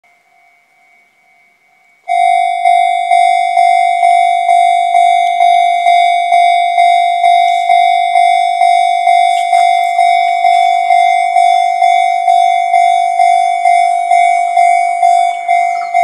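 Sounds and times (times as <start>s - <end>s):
level crossing alarm ringing: 0.1s - 16.0s.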